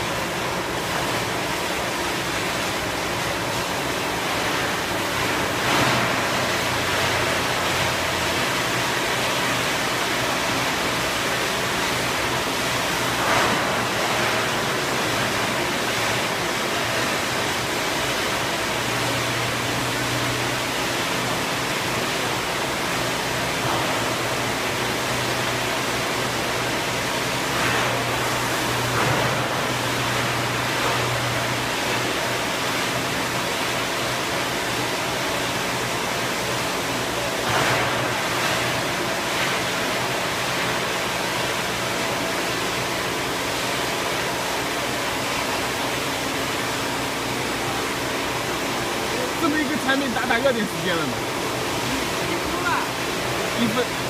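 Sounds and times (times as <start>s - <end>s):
hiss-like machine noise: 0.0s - 54.0s.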